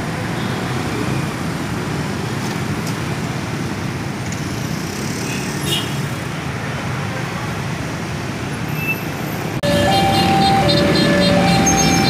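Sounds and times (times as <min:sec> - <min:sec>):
cars and scooters crossing tracks: 0:00.0 - 0:12.0.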